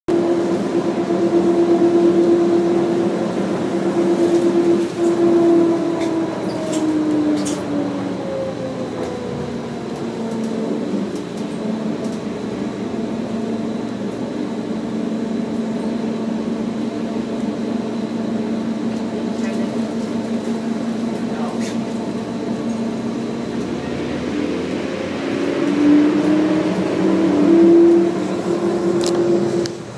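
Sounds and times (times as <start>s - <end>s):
subway train running: 0.1s - 29.9s
train whine: 0.1s - 29.9s.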